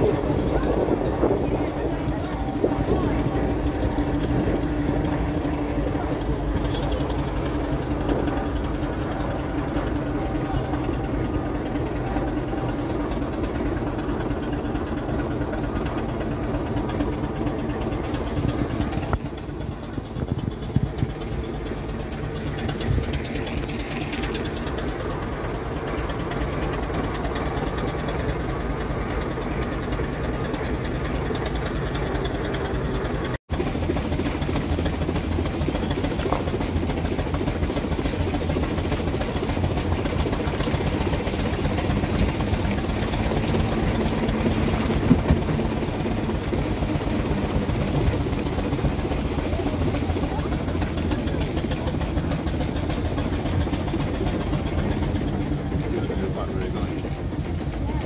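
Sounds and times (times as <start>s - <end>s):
steam traction engine running: 0.0s - 58.0s.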